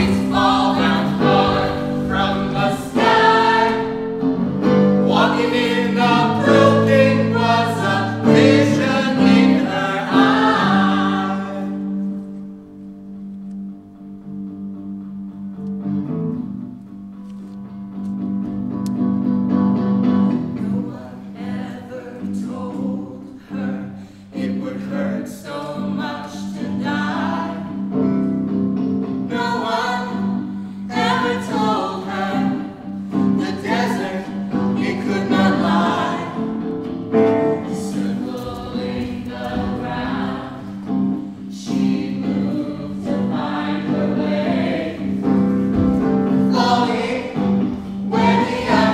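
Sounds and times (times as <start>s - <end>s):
choir singing: 0.0s - 12.4s, 20.5s - 28.3s, 29.2s - 48.9s.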